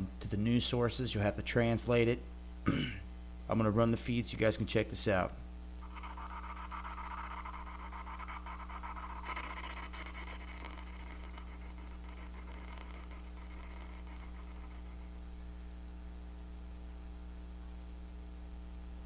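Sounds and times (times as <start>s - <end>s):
faint wavering hiss: 0.0s - 16.8s
low electrical hum: 0.0s - 19.0s.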